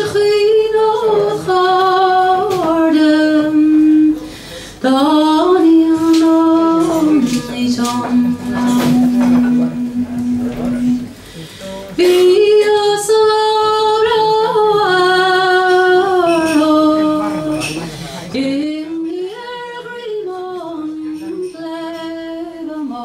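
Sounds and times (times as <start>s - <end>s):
woman singing slow melody: 0.0s - 11.2s, 12.0s - 23.0s.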